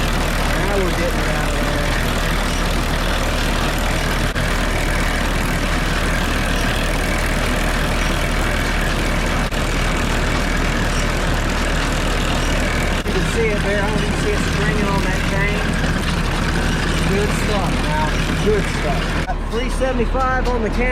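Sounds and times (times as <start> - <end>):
baler belts and chains turning: 0.0 - 20.9
tractor diesel engine running: 0.0 - 20.9.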